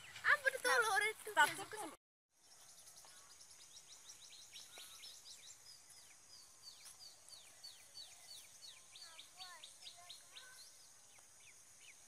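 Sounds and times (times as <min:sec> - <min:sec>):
birds chirping faintly: 0:00.0 - 0:12.0
light outdoor hiss: 0:00.0 - 0:12.0.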